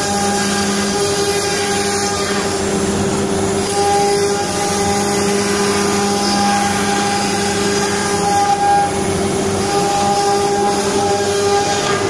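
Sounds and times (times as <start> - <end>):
router spindle carving wood: 0.0 - 12.0.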